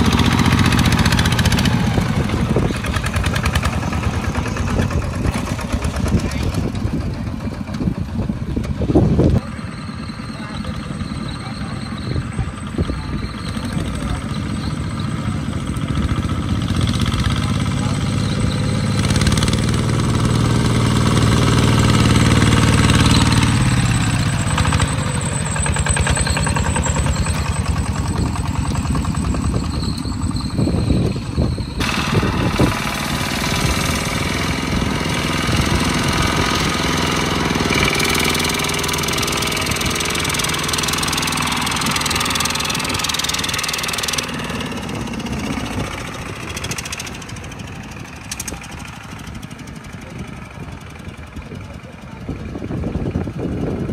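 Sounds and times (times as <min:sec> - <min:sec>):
another engine running steadily: 0:00.0 - 0:53.9
diesel tractor engine knocking chug: 0:00.0 - 0:53.9.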